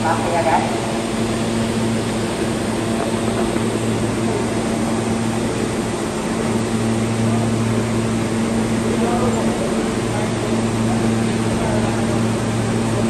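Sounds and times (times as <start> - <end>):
subway train ventilation hum: 0.0 - 13.0.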